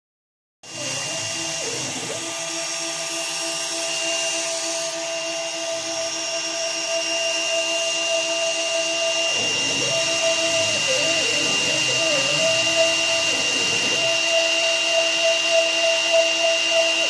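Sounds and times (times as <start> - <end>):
router spindle whine: 0.6 - 17.0
stepper motor tones: 0.6 - 17.0.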